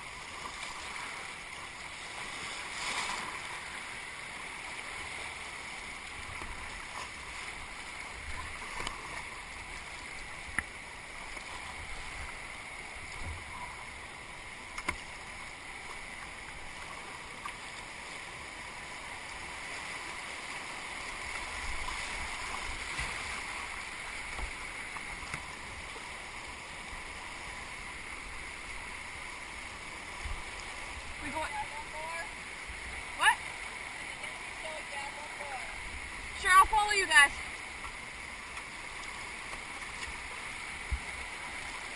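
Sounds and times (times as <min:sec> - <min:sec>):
rushing river water: 0:00.0 - 0:41.9.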